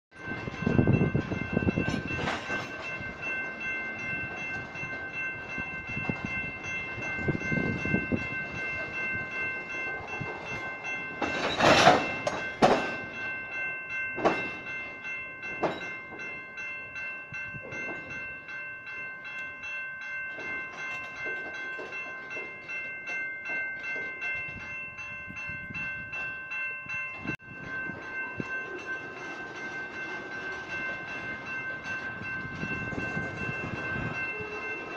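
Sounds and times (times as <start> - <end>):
crossing bells ringing: 0.1 - 34.9
diesel locomotives rumbling: 0.1 - 34.9.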